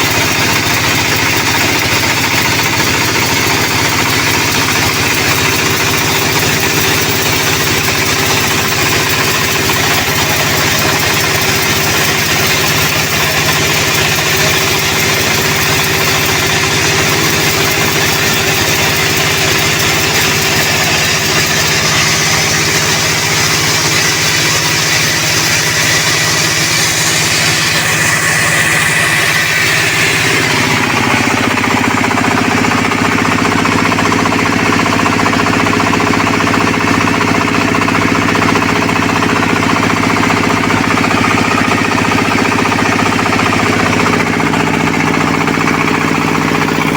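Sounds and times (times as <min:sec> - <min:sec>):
sawmill machine hum: 0:00.0 - 0:46.9.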